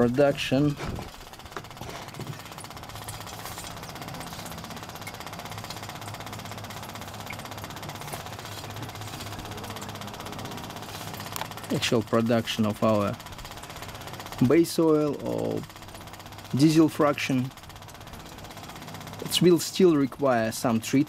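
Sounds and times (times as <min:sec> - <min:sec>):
machine hum with rattle: 0:00.0 - 0:21.0.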